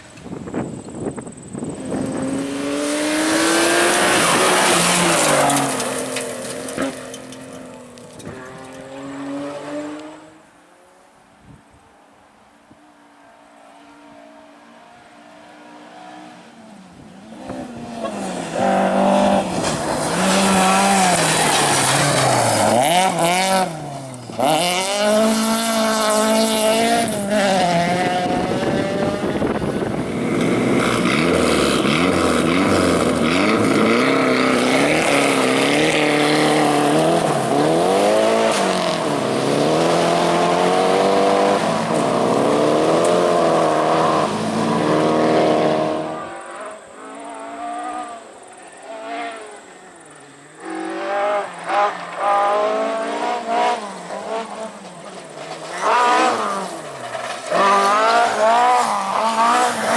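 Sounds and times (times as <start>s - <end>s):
rally car engine revving: 1.6s - 10.5s, 15.5s - 59.9s.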